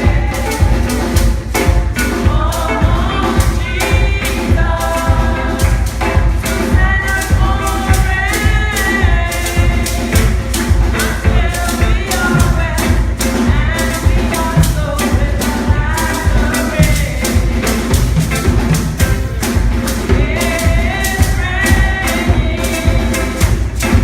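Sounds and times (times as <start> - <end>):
drum and tambourine beat: 0.0 - 24.0
live worship band: 0.0 - 24.0
people singing: 0.0 - 24.0.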